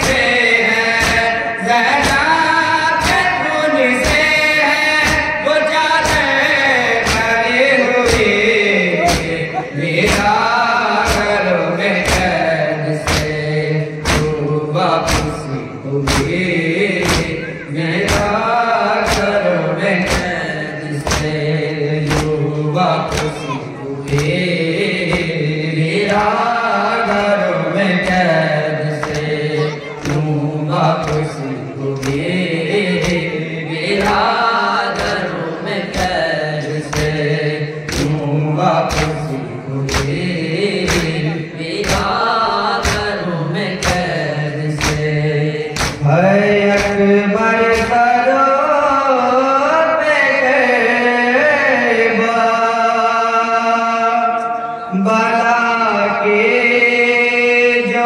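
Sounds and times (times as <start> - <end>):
voices chanting a dirge: 0.0 - 47.0
rhythmic chest-beating: 0.0 - 49.4.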